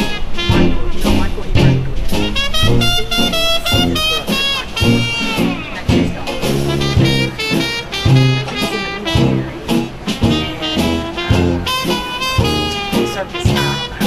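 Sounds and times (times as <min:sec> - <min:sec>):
swing jazz music with brass: 0:00.0 - 0:14.0.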